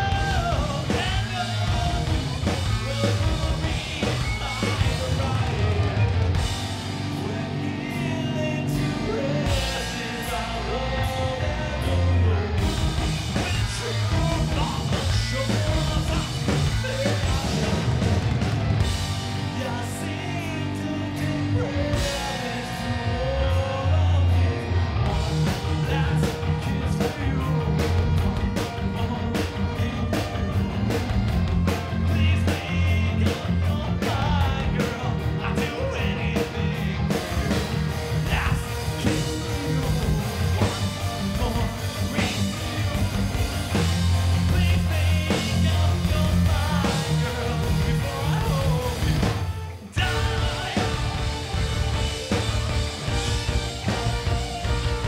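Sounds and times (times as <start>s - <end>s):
man singing: 0.0s - 6.1s, 7.0s - 18.1s, 19.4s - 55.0s
bass guitar: 0.0s - 55.0s
distorted electric guitars: 0.0s - 55.0s
drum kit: 0.0s - 55.0s.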